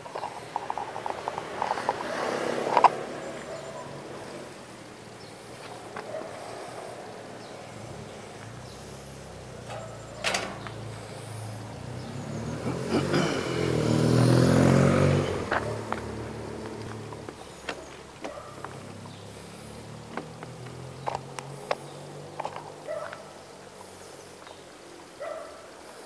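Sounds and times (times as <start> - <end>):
vehicle passing by: 0.0 - 26.0.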